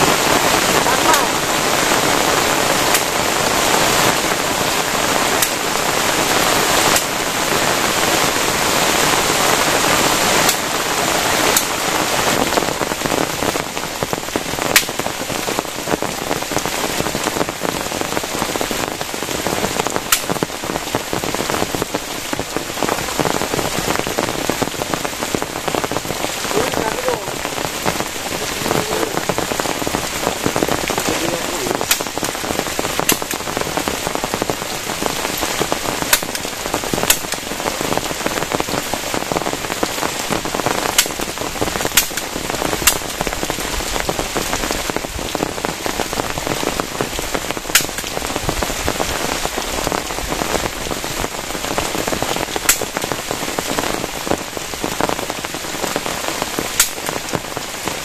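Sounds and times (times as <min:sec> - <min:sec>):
heavy rain on plastic tarp: 0:00.0 - 0:58.0.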